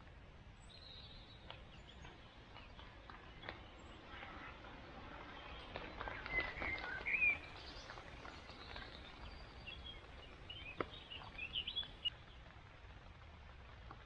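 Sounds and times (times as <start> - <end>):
faint outdoor background: 0.0 - 14.0
small birds chirping: 0.6 - 12.4.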